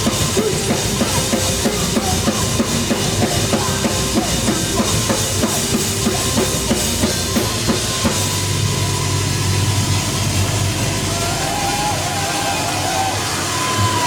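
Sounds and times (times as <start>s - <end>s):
bass: 0.0s - 14.0s
drum kit playing a steady beat: 0.0s - 14.0s.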